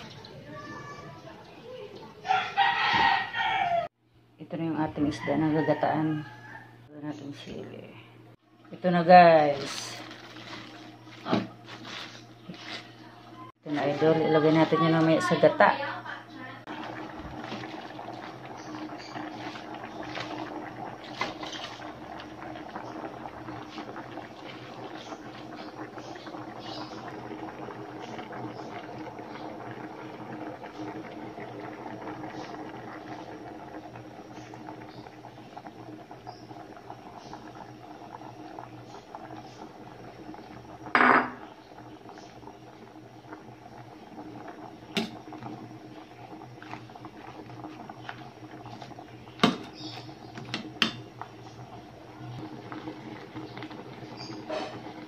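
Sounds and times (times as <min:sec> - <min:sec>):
pot simmering with pops and crackles: 0:04.5 - 0:55.0.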